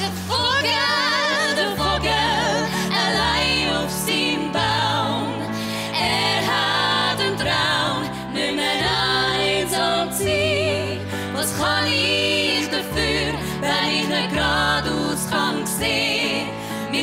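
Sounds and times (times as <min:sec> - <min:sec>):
grand piano accompaniment: 0:00.0 - 0:17.0
women singing in harmony: 0:00.0 - 0:17.0.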